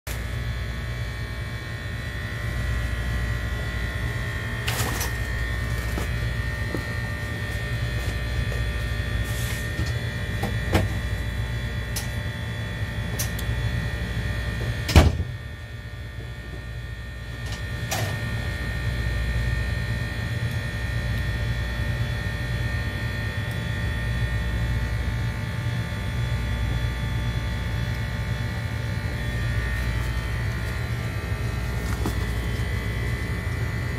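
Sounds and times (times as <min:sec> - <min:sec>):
low buzzing hum: 0:00.1 - 0:33.9.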